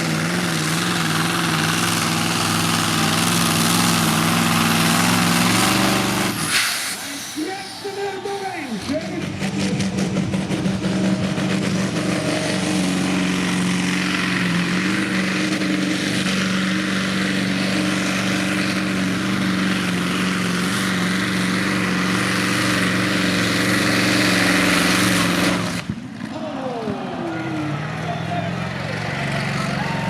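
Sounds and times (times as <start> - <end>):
truck engine droning flat out: 0.0 - 30.0.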